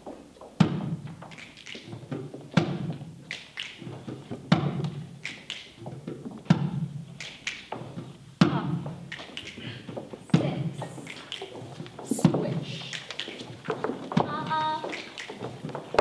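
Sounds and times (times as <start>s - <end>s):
heavy percussion thumps: 0.0s - 1.3s, 1.9s - 16.0s.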